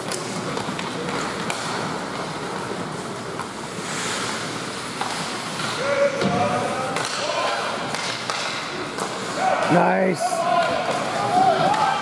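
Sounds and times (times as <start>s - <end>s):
arena noise: 0.0s - 12.0s.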